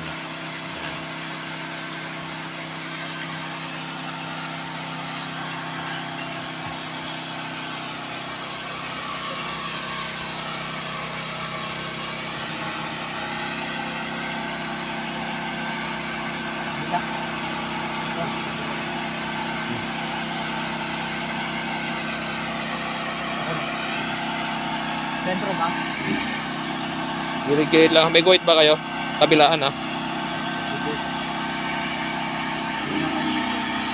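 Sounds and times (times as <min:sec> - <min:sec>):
generator engine running: 0:00.0 - 0:33.9.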